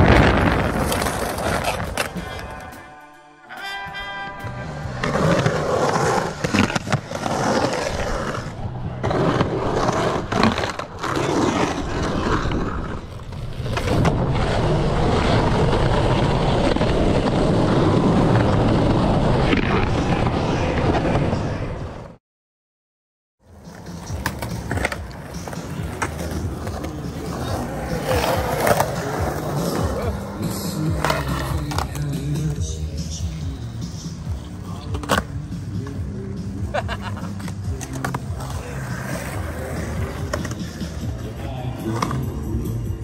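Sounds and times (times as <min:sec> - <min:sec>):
skateboard wheels rolling on concrete: 0:00.0 - 0:02.9, 0:03.5 - 0:22.2, 0:23.4 - 0:43.0.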